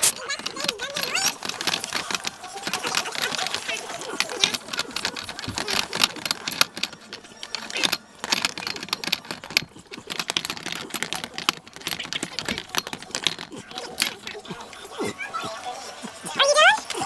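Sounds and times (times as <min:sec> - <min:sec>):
rapid clicking and smacking: 0:00.0 - 0:17.0.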